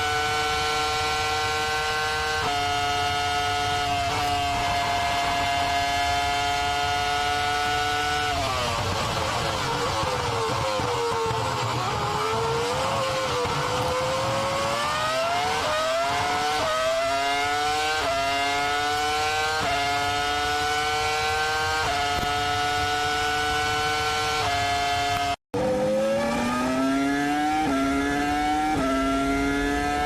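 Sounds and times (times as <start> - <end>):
racing car engine revving: 0.0 - 30.0.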